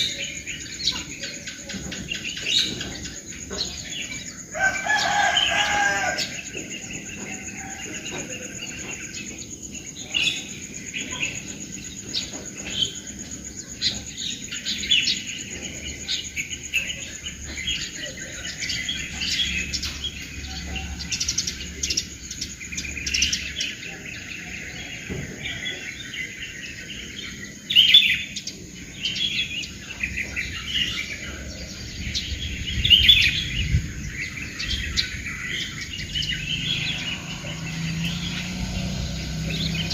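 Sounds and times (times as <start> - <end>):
insect hum: 0.0 - 39.9
small birds chirping: 0.0 - 39.9.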